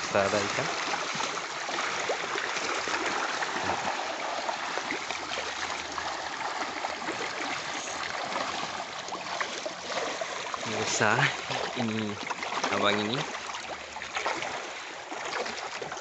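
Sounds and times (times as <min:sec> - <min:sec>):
fish thrashing and splashing: 0:00.0 - 0:16.0.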